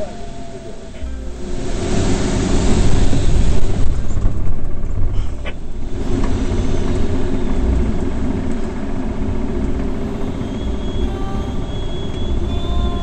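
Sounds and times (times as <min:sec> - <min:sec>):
rushing airflow and wind rumble: 0:00.0 - 0:13.0.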